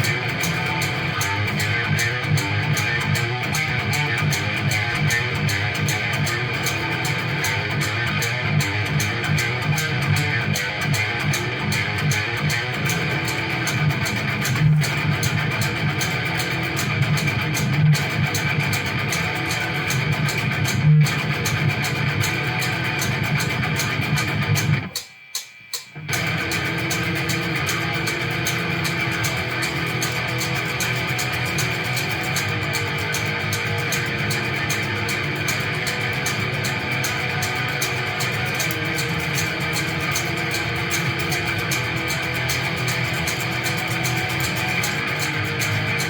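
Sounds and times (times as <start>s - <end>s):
guitar-led music with bass: 0.0s - 25.2s, 25.9s - 46.0s.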